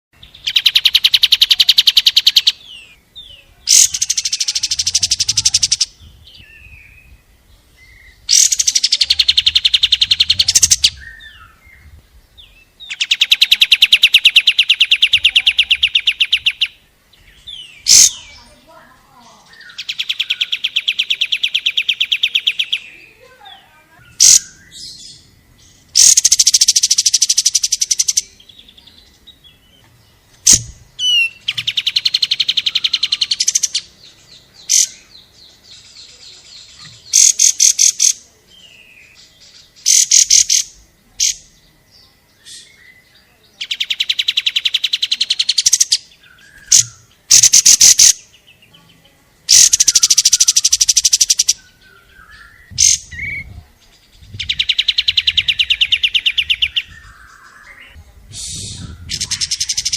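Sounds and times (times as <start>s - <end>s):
songbird singing fast notes: 0.2s - 59.9s.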